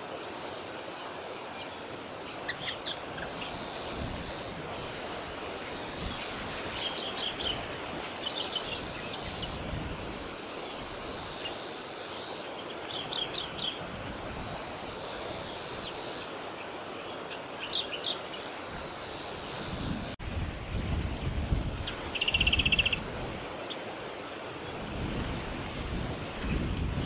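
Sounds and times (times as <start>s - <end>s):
outdoor background rush: 0.0s - 27.0s
small birds chirping: 0.1s - 4.9s, 5.6s - 10.0s, 10.6s - 19.6s, 21.8s - 27.0s.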